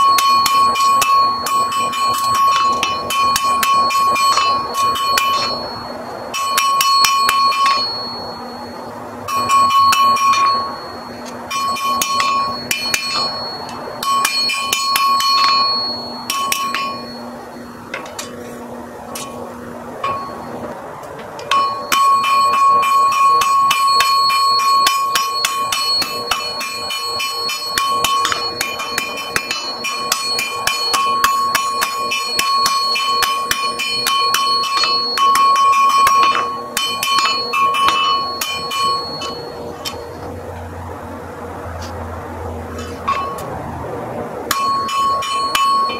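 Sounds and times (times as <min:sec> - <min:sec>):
anvil ringing: 0:00.0 - 0:18.4, 0:19.1 - 0:20.8, 0:21.4 - 0:40.3, 0:42.8 - 0:43.6, 0:44.5 - 0:45.9
hammer striking anvil: 0:00.0 - 0:18.4, 0:19.1 - 0:20.7, 0:21.4 - 0:40.3, 0:42.8 - 0:43.6, 0:44.5 - 0:45.9.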